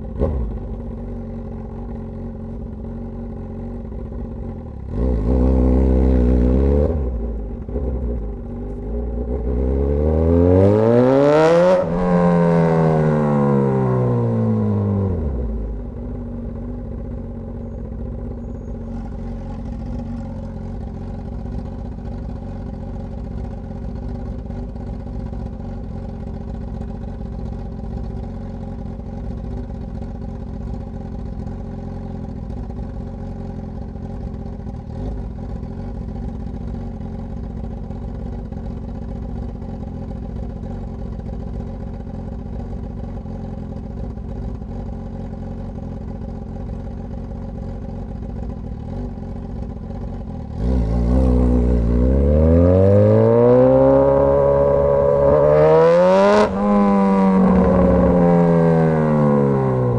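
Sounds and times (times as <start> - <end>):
motorcycle engine idling: 0.0 - 10.2, 11.4 - 59.9
motorcycle revving and pulling away: 0.0 - 59.9.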